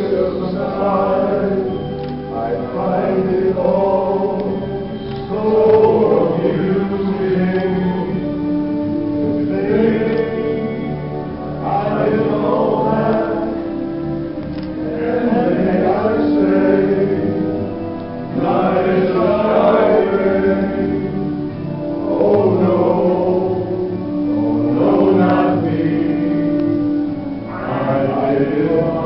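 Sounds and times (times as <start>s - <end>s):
men's vocal group singing: 0.0s - 29.0s.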